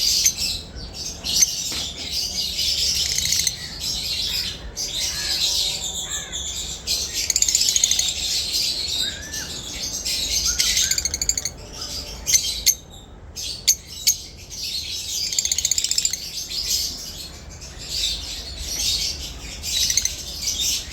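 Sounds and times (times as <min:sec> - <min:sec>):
lovebirds chattering: 0:00.0 - 0:20.9
sharp bird calls: 0:00.0 - 0:20.9.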